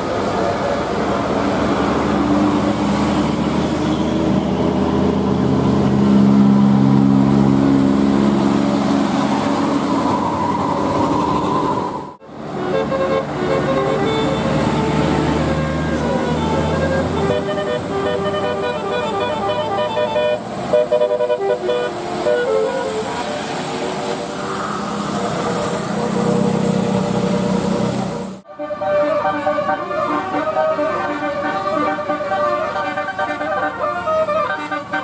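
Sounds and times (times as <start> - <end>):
bus engine passing: 0.0 - 35.0.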